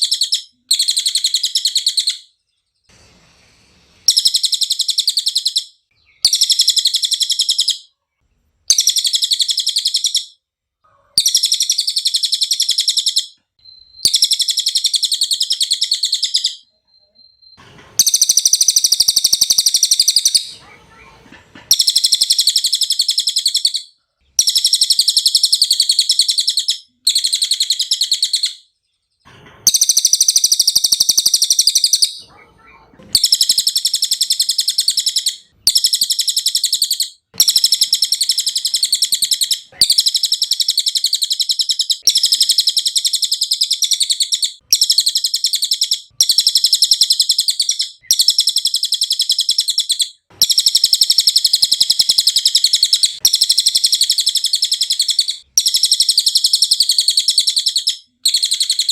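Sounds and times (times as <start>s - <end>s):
bird song fast trilling: 0.0s - 2.3s, 4.1s - 7.9s, 8.7s - 10.4s, 11.2s - 20.5s, 21.7s - 28.7s, 29.7s - 32.2s, 33.1s - 58.9s.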